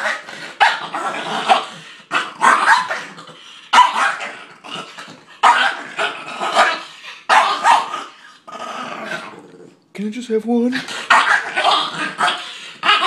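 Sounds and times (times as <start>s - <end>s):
dog barking and snarling: 0.0s - 9.6s, 10.7s - 13.0s.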